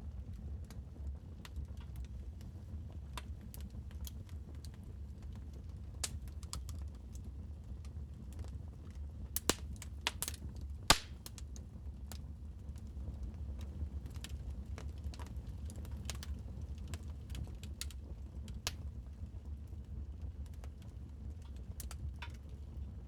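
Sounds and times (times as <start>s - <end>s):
low fire rumble: 0.0s - 23.0s
fire popping and snapping: 0.6s - 22.9s.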